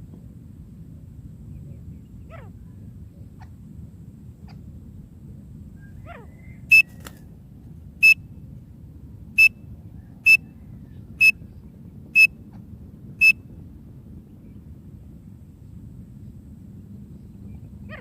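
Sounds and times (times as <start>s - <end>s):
faint low rumble: 0.0s - 18.0s.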